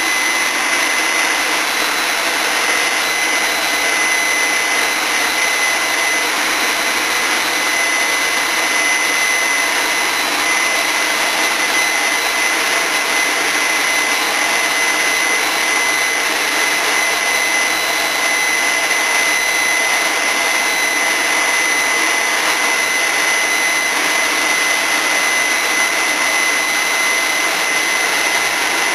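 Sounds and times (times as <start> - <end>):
leaf blower running: 0.0 - 28.9.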